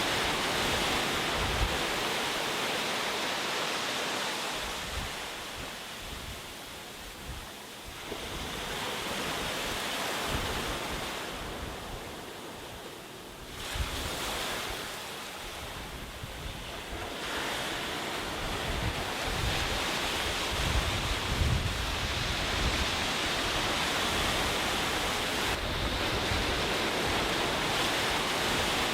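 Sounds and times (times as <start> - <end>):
sea waves breaking on a beach: 0.0 - 28.9
wind gusts on microphone: 0.0 - 28.9.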